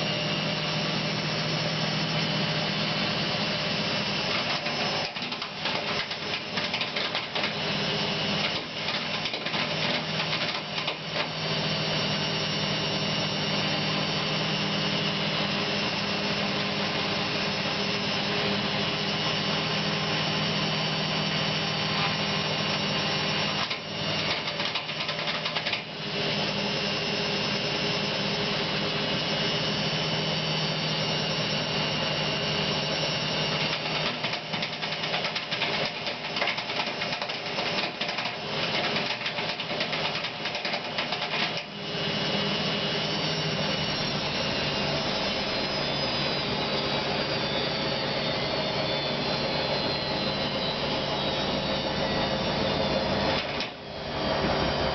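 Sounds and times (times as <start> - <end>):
washing machine spinning: 0.0 - 54.9.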